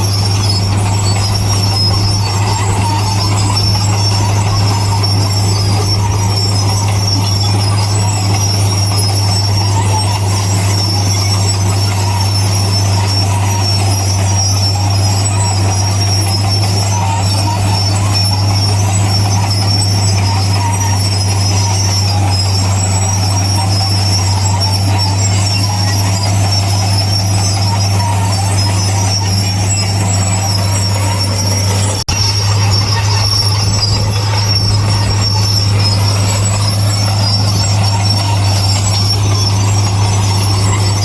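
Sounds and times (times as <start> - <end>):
diesel machinery engine drone: 0.0 - 41.0
high metallic squeal: 0.0 - 41.0.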